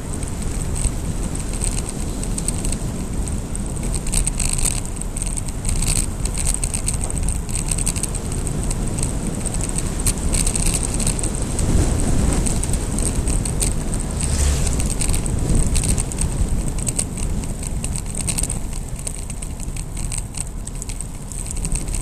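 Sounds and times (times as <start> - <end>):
wind on camera microphone: 0.0 - 20.1
bicycle tyre noise: 0.0 - 22.0
rattling clicks from bike: 0.0 - 22.0.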